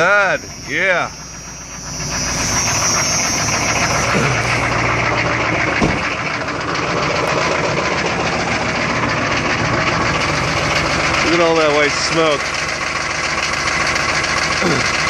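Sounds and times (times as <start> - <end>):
diesel engine idling: 0.0 - 15.0
engine knock: 0.0 - 15.0.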